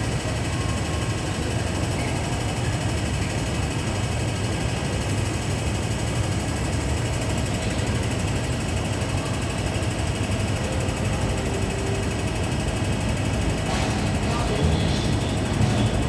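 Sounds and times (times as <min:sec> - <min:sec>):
electric train hum and rumble: 0:00.0 - 0:16.0.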